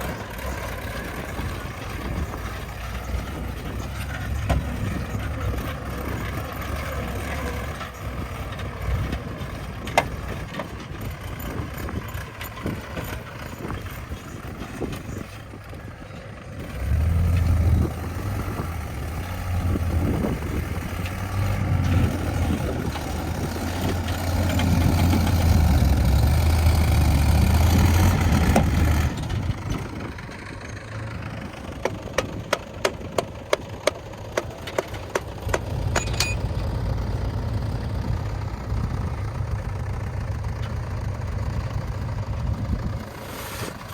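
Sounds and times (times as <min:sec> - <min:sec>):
diesel earth-moving machinery running: 0:00.0 - 0:43.9.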